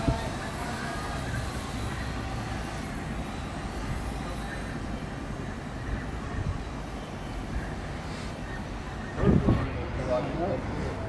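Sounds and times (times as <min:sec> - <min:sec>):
distant vehicles rumbling: 0:00.0 - 0:11.0.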